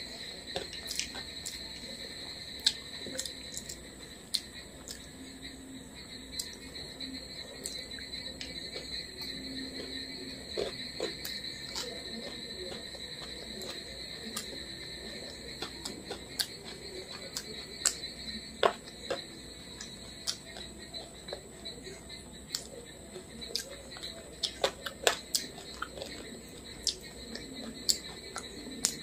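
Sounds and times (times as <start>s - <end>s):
fingers mixing food on plate: 0.2s - 5.1s, 7.6s - 29.0s
person chewing: 0.5s - 1.8s, 2.6s - 5.1s, 7.6s - 21.7s, 22.5s - 29.0s.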